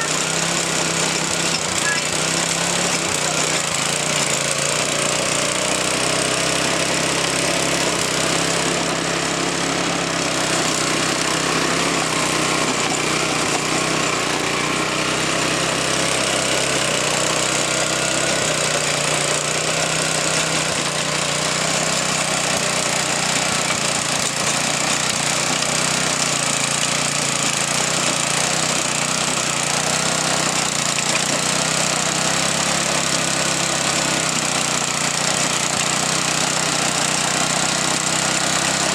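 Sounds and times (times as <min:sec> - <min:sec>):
garden tiller engine running: 0:00.0 - 0:38.9.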